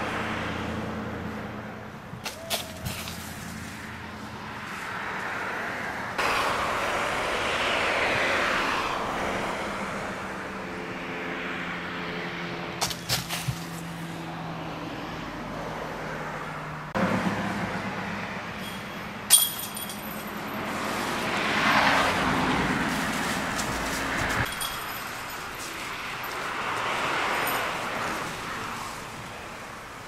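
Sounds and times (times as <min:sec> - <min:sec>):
car passing: 0:00.0 - 0:30.0
engine hum: 0:00.0 - 0:30.0.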